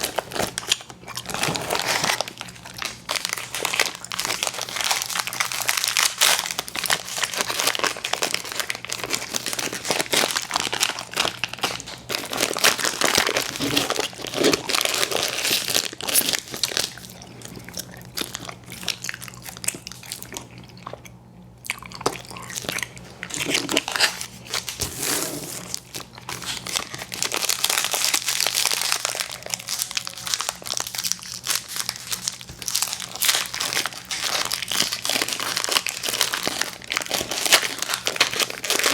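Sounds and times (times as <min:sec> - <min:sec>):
plastic wrappers crinkling: 0:00.0 - 0:19.8, 0:22.5 - 0:38.9
chewing and smacking candy: 0:00.0 - 0:24.8, 0:25.6 - 0:38.9
faint steady hum: 0:00.0 - 0:38.9.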